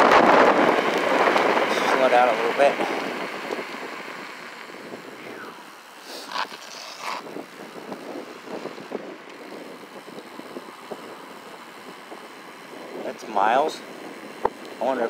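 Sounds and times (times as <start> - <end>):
tyre and road noise: 0.0 - 15.0
wind on microphone: 0.0 - 15.0.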